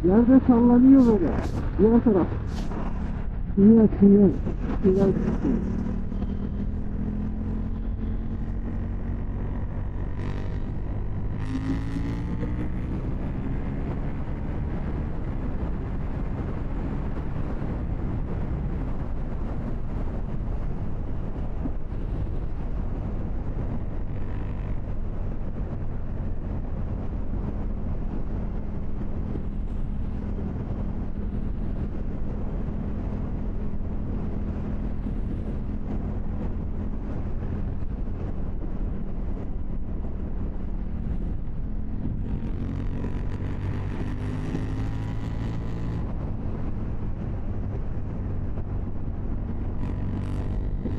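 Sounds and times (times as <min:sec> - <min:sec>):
motorcycle engine running: 0:00.0 - 0:50.9
wind on microphone: 0:00.0 - 0:50.9.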